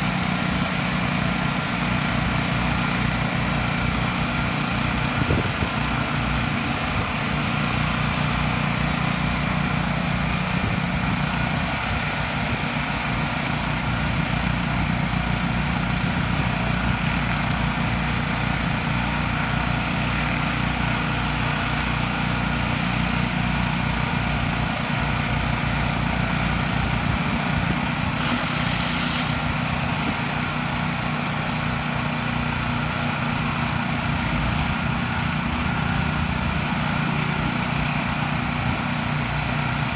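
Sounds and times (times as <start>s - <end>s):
high-pressure water spraying on concrete: 0.0s - 39.9s
pressure washer engine running: 0.0s - 39.9s.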